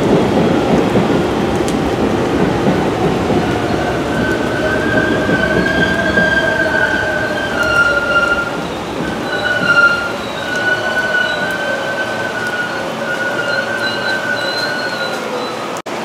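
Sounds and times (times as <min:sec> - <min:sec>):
high train squeal: 0:00.0 - 0:15.8
steady rain: 0:00.0 - 0:16.0
subway train rumbling: 0:00.0 - 0:16.0.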